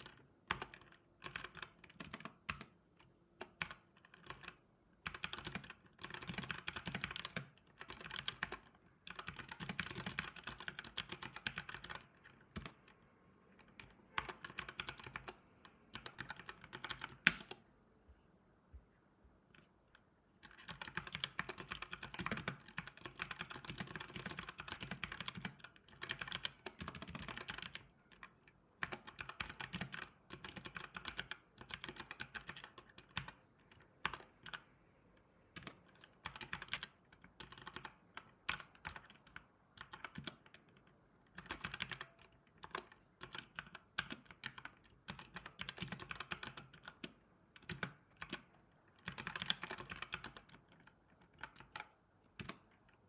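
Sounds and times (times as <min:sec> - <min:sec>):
typing on computer keyboard: 0:00.0 - 0:17.6, 0:19.5 - 0:53.0.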